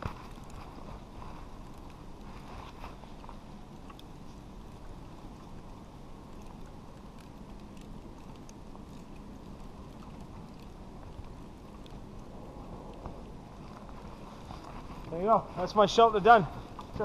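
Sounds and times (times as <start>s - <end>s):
rope ticks and rustles: 0.0s - 17.0s
wind rumble on microphone: 0.0s - 17.0s.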